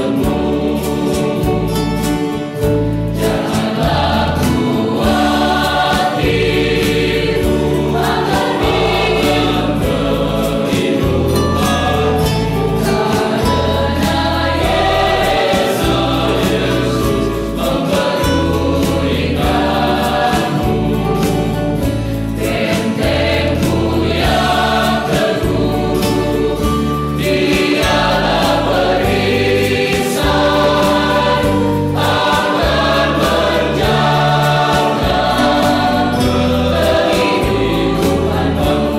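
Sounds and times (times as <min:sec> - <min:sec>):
mixed choir singing gospel song: 0:00.0 - 0:38.9.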